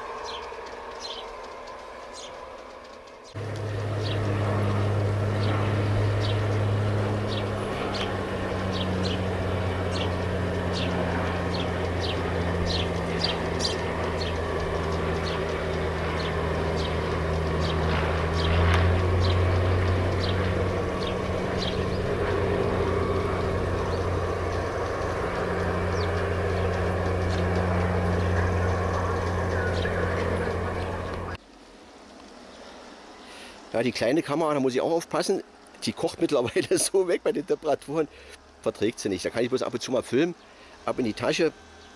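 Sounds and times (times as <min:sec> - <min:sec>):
model train low hum: 0:00.0 - 0:41.9.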